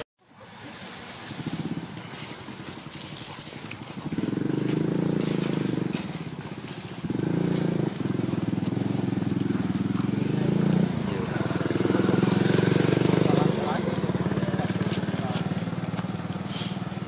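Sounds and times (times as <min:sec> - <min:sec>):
small engine running: 0:01.1 - 0:17.0.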